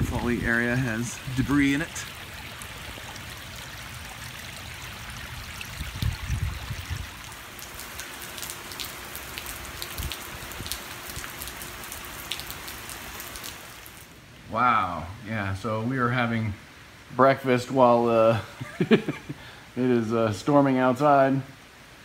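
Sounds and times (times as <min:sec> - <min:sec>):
raindrops ticking close by: 0:00.0 - 0:21.3
rain on pavement and shrubs: 0:00.0 - 0:22.0.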